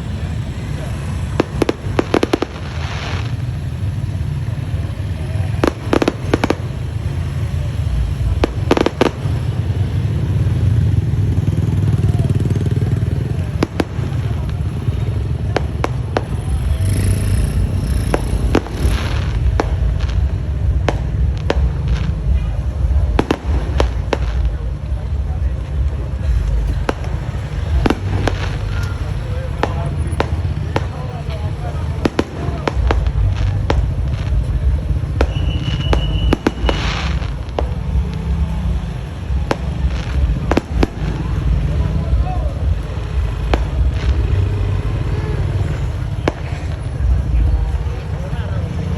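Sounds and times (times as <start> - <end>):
fireworks banging: 0.0 - 48.9
fireworks crackling: 0.0 - 48.9
steady low rumble: 0.0 - 48.9.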